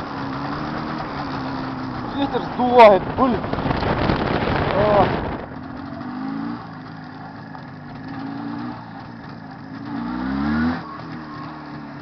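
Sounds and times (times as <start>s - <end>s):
two-stroke motorcycle engine revving: 0.0s - 12.0s.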